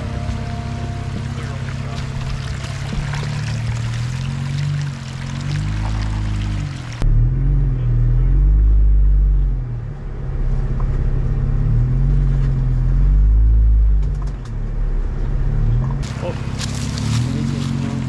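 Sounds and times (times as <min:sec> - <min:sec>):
engine revving at low revs: 0:00.0 - 0:18.0.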